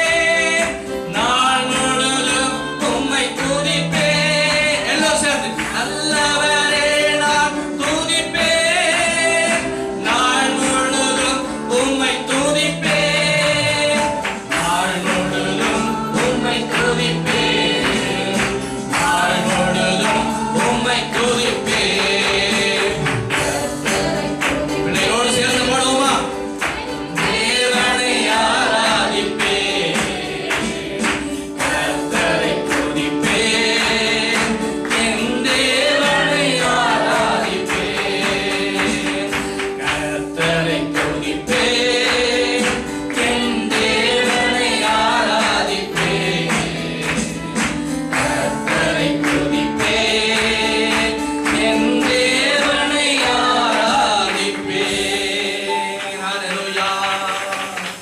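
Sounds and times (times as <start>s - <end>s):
group singing worship song: 0.0s - 58.0s
keyboard accompaniment: 0.0s - 58.0s.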